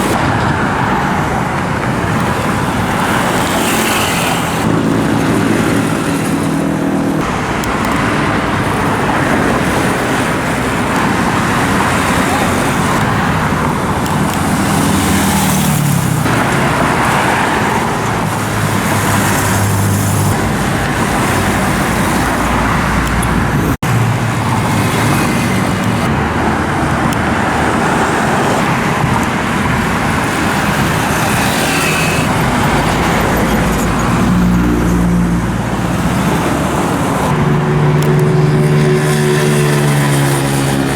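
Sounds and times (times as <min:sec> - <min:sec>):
motorcycles passing: 0:00.0 - 0:40.9
roadway noise: 0:00.0 - 0:40.9.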